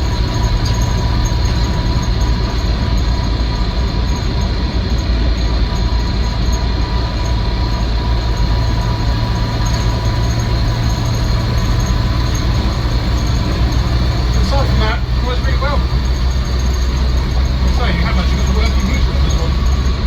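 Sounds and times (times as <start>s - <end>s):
car engine drone: 0.0s - 20.0s
high drivetrain whine: 0.0s - 20.0s
road and body noise: 0.0s - 20.0s.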